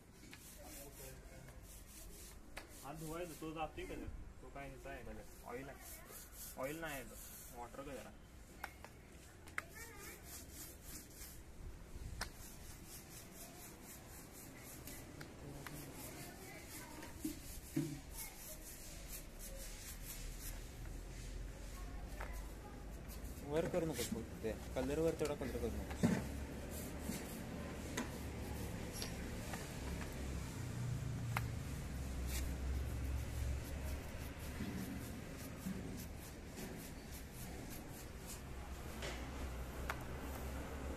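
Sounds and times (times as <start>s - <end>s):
paint roller swishing on tiles: 0.1s - 3.6s, 5.4s - 7.8s, 9.6s - 11.6s, 12.2s - 40.9s.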